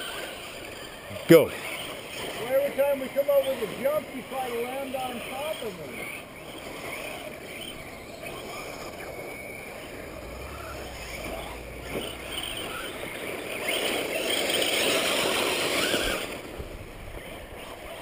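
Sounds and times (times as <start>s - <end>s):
radio-controlled cars racing: 0.0s - 18.0s.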